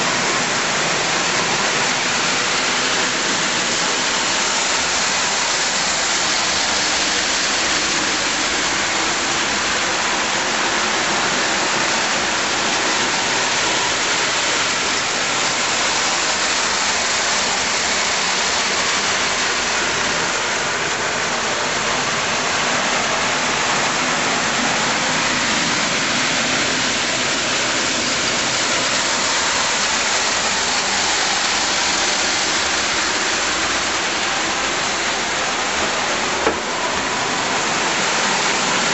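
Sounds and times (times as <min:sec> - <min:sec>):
toy train rolling on metal track: 0:00.0 - 0:38.9.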